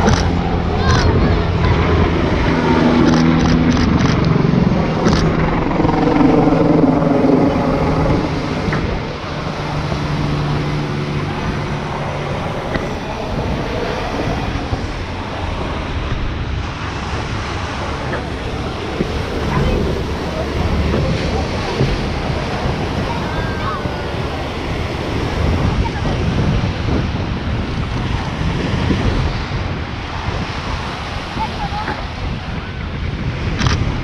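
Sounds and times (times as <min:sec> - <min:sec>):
helicopter flying past: 0:00.0 - 0:34.0.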